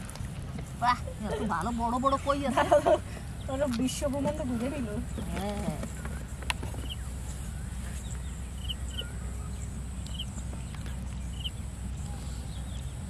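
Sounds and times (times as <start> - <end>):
low rumble: 0.0 - 13.0
bird chirping: 0.5 - 13.0.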